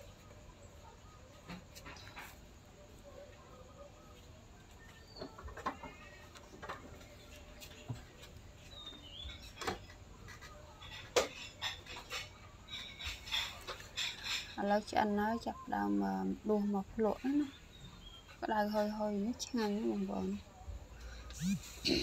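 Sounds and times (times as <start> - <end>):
birds chirping: 2.8 - 22.0.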